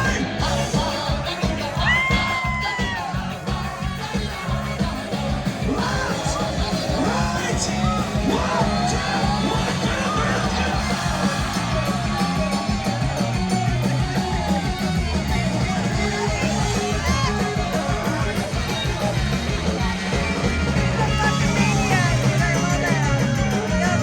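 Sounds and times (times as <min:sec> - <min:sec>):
crowd yelling and singing along: 0:00.0 - 0:24.0
live rock band playing: 0:00.0 - 0:24.0.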